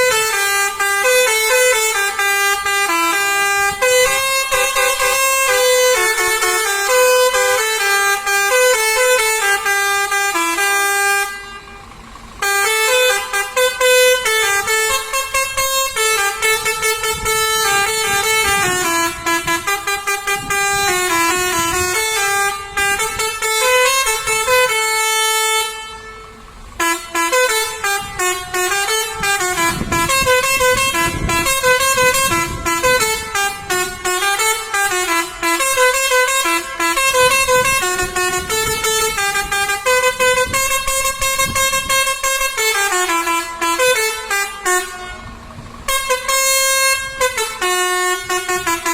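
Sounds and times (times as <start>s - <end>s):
multi-note air horn tune: 0.0s - 48.9s.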